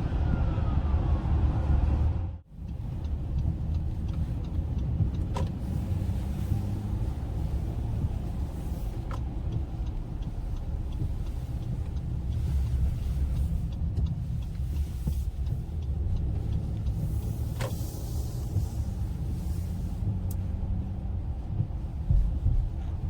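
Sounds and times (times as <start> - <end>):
engine and road drone in cabin: 0.0 - 23.0.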